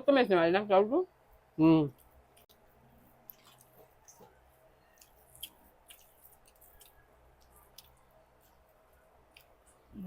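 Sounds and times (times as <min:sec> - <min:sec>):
people chewing and eating: 0:01.9 - 0:10.0.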